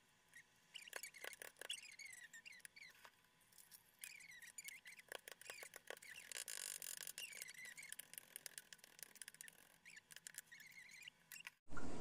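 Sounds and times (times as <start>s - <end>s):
faint high squeaks: 0.3s - 12.0s.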